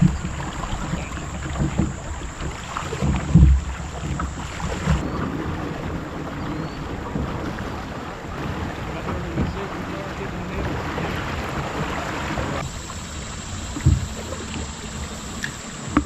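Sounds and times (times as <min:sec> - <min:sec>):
heavy low bumps: 0:00.0 - 0:16.0
water moving around kayak: 0:00.0 - 0:16.0
wind buffeting microphone: 0:00.0 - 0:16.0.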